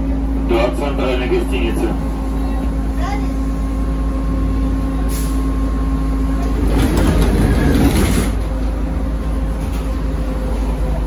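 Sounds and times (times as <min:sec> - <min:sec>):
trolleybus cabin hum: 0:00.0 - 0:11.0.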